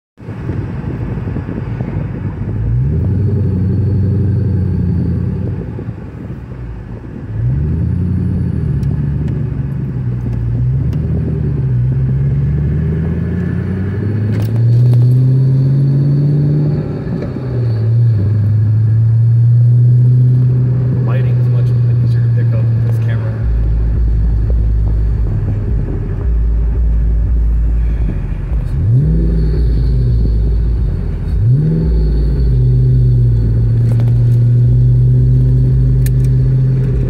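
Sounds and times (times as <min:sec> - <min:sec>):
car engine from inside cabin: 0:00.2 - 0:37.0.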